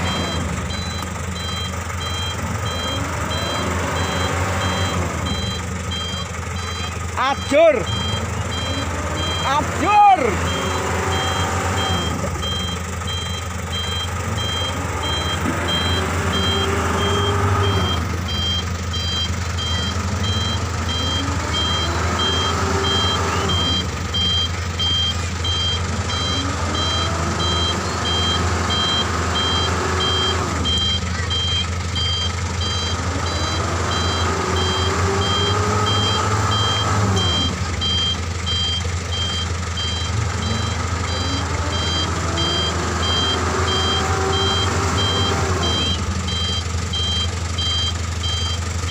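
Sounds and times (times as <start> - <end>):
reversing alarm beeps: 0.0 - 48.9
truck engine revving: 0.0 - 48.9.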